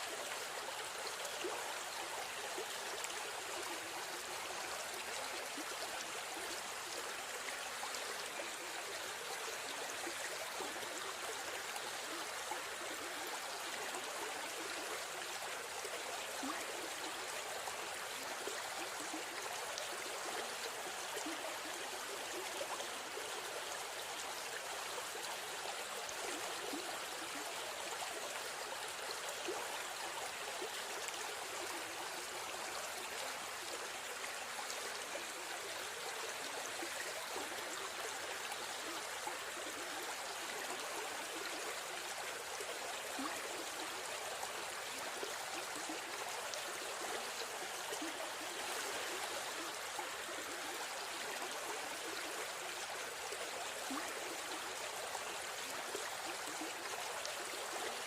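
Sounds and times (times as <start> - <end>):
river stream flowing: 0.0 - 58.0.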